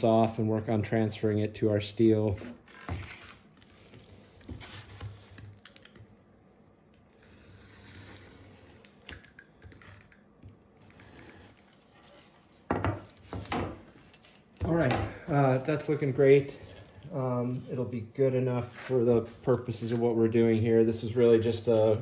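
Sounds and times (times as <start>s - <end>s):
tape scratching and rustling: 2.4s - 6.1s, 7.0s - 22.0s.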